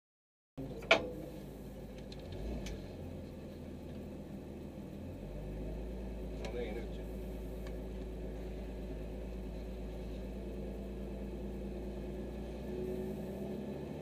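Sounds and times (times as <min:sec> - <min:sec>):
car engine idling: 0:00.6 - 0:14.0.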